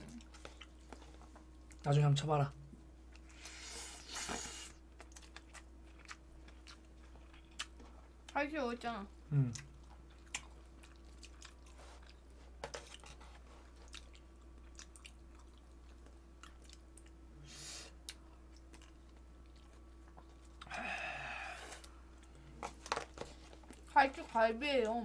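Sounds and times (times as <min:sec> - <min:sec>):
people chewing: 0:00.0 - 0:01.8, 0:03.1 - 0:08.2, 0:09.3 - 0:24.9.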